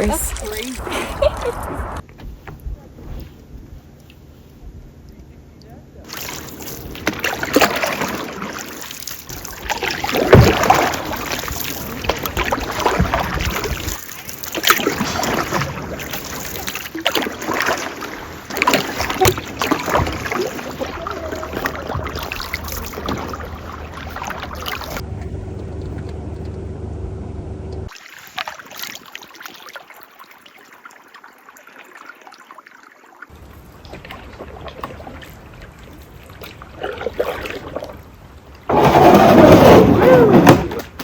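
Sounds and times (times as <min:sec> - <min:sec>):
water splashing and lapping: 0:00.0 - 0:02.5, 0:06.0 - 0:26.5, 0:27.8 - 0:41.0
paddles dipping in water: 0:06.0 - 0:26.5, 0:27.8 - 0:41.0.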